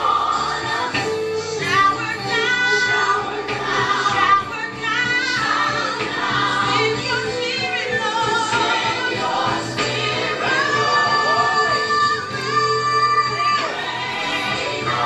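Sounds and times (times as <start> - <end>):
choir singing gospel song: 0.0 - 15.0
instrumental backing music: 0.0 - 15.0.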